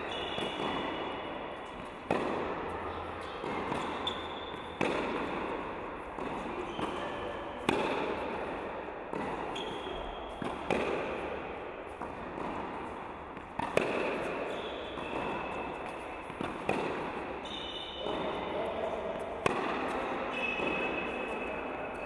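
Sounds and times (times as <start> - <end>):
tennis racket hitting ball: 0.0 - 2.8, 3.4 - 18.5, 19.1 - 22.0.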